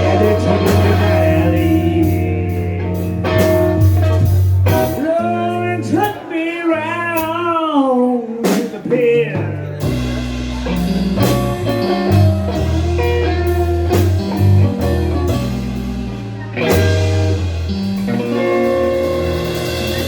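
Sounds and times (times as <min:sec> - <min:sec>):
bass notes: 0:00.0 - 0:07.6, 0:08.7 - 0:20.0
electric guitar playing blues: 0:00.0 - 0:20.0.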